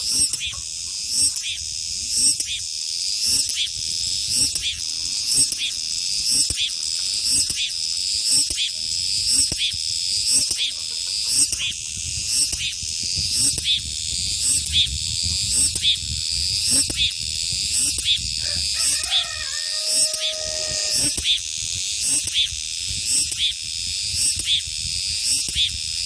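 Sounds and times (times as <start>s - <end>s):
cicadas singing: 0.0s - 26.0s.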